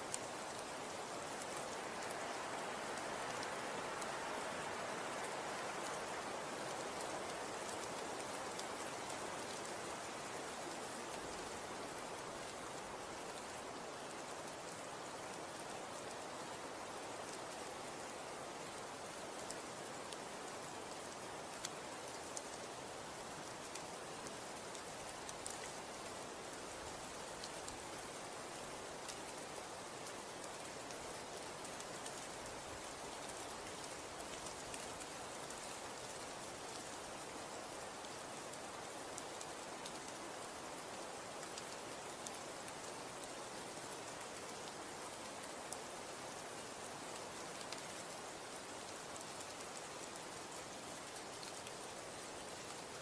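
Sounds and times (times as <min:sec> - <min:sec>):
soft hiss of falling snow: 0:00.0 - 0:53.0.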